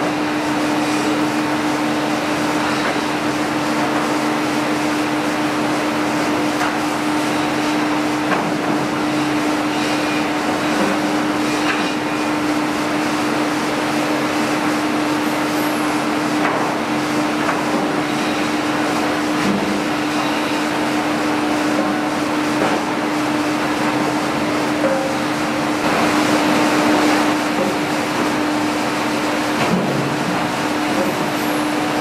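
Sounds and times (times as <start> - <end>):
conveyor machinery din: 0.0 - 32.0.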